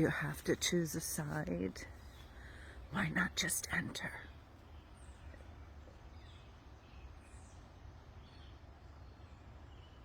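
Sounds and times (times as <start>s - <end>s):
distant birds chirping: 0.0s - 10.0s
low steady outdoor rumble: 0.0s - 10.0s.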